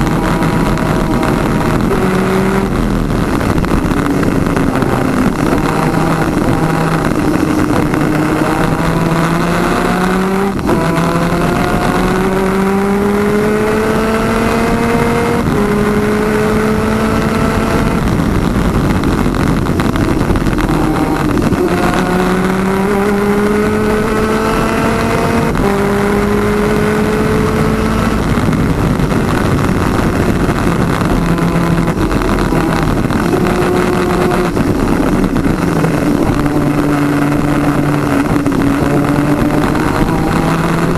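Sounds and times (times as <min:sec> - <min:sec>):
kart engines racing: 0:00.0 - 0:18.3, 0:19.2 - 0:40.9
wind and road noise: 0:00.0 - 0:40.9.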